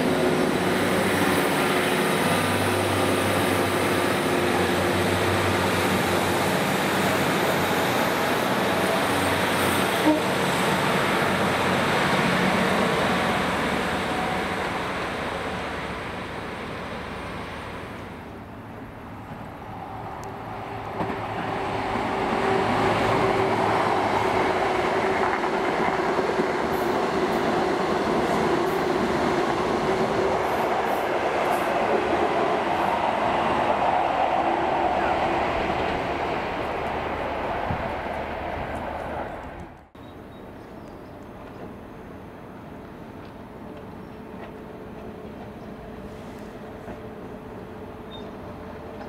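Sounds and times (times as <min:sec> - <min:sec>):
passenger train rail noise: 0:00.0 - 0:49.0.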